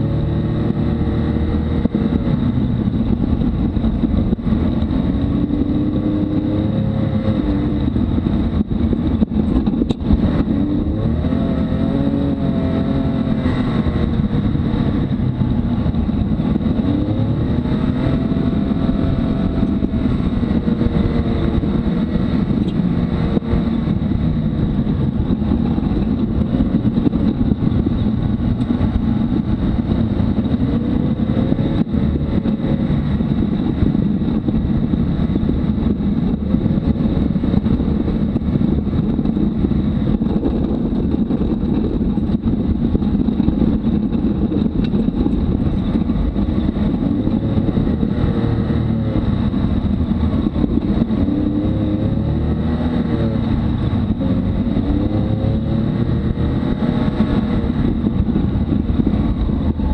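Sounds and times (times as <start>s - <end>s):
off-road vehicle engine: 0.0s - 59.9s
rumble of tyres and chassis: 0.0s - 59.9s.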